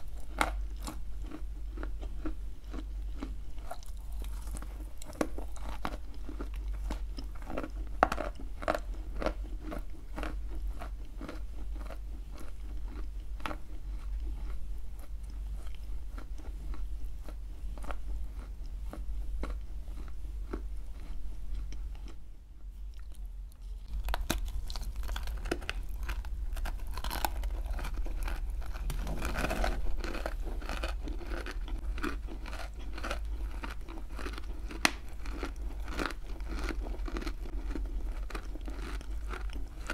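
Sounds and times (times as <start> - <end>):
gritty chewing crunches: 0.0 - 22.2, 22.9 - 39.9.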